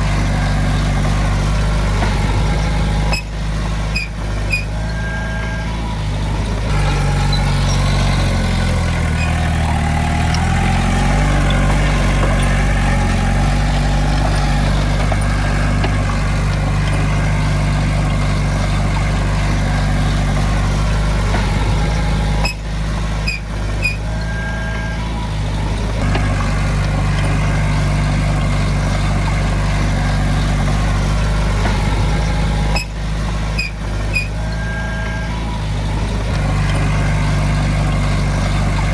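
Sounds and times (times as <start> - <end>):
heavy equipment diesel engine: 0.0 - 38.9.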